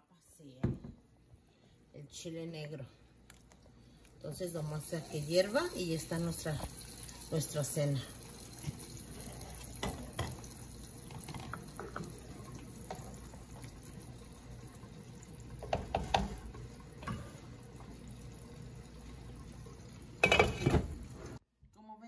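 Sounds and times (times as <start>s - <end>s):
liquid sloshing in a pan: 3.2s - 21.4s.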